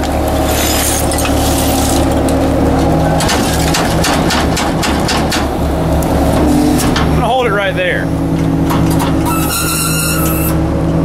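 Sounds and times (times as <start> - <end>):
garbage truck engine and hydraulics: 0.0 - 11.0.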